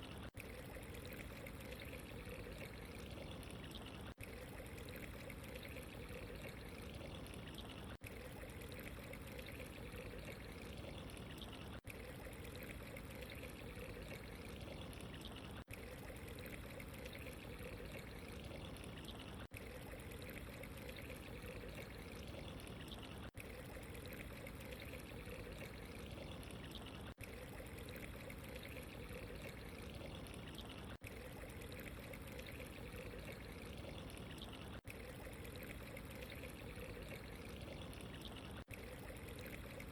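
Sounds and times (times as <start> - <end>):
water trickling and pouring: 0.0 - 39.9.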